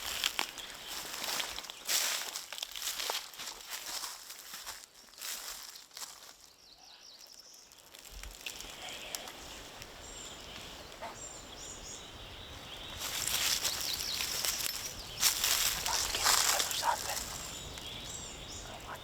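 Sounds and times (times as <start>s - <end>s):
footsteps crunching dry leaves: 0.0s - 6.6s, 7.3s - 11.0s, 12.4s - 18.8s.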